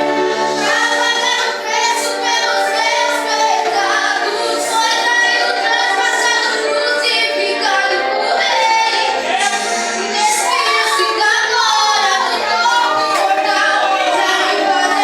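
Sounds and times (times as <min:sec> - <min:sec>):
group singing worship song: 0:00.0 - 0:15.0.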